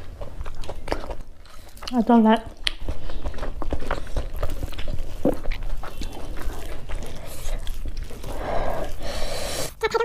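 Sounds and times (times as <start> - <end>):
chewing and lip smacking: 0.0 - 9.8.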